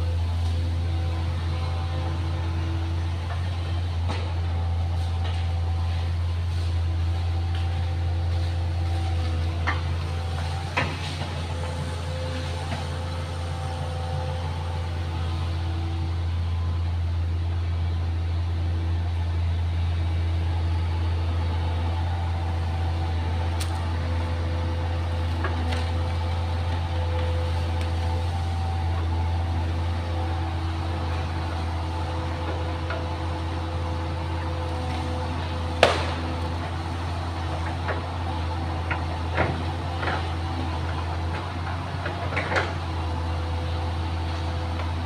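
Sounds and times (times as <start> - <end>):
excavator engine droning: 0.0 - 45.0.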